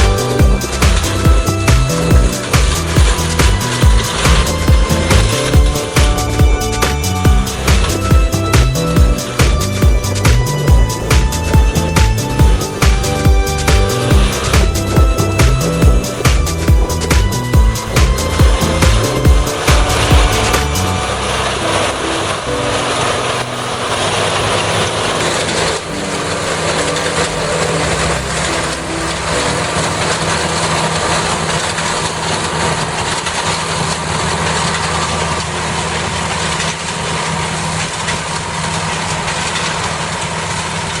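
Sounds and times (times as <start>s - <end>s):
combine harvester engine running: 0.0s - 41.0s.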